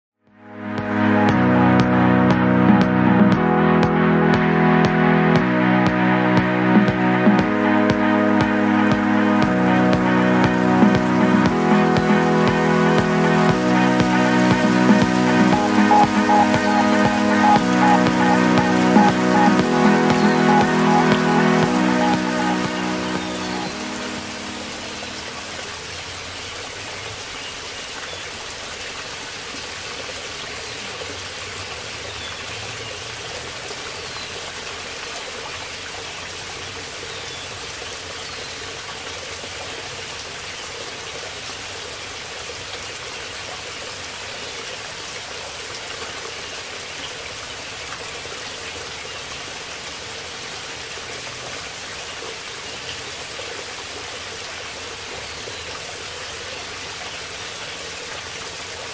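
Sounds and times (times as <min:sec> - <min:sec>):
waterfall cascading over rock: 0:08.4 - 0:58.9.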